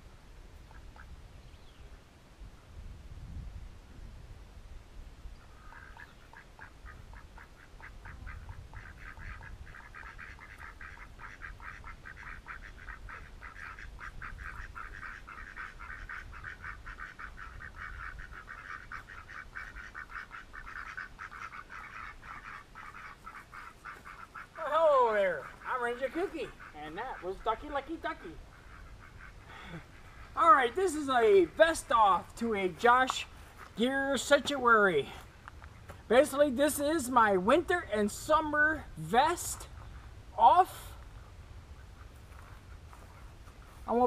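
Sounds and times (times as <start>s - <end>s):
ducks quacking: 5.4s - 44.0s.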